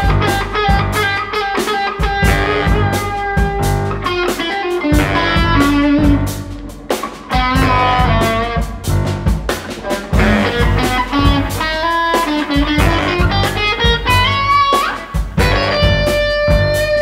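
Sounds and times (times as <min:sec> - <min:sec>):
electric guitar: 0:00.0 - 0:17.0
live band music: 0:00.0 - 0:17.0.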